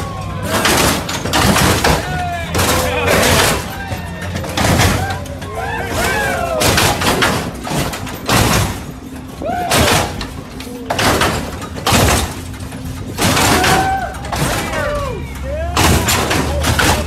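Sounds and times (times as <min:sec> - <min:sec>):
onlookers shouting: 0:00.0 - 0:07.9, 0:09.0 - 0:11.2, 0:13.1 - 0:17.0
car slamming down: 0:00.0 - 0:17.0
hydraulic pump hum: 0:00.0 - 0:17.0.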